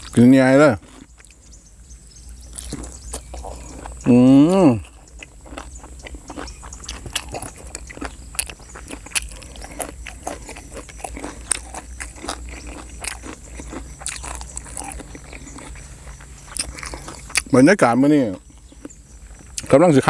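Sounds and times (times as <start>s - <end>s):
person chewing and crunching: 0.0s - 19.9s.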